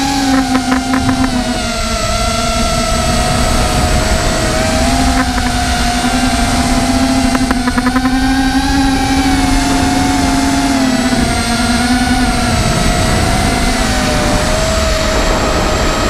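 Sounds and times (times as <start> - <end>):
rapid rattling clicks: 0.0 - 15.7
model aircraft motor whine: 0.0 - 16.0
wind rushing past microphone: 0.0 - 16.0.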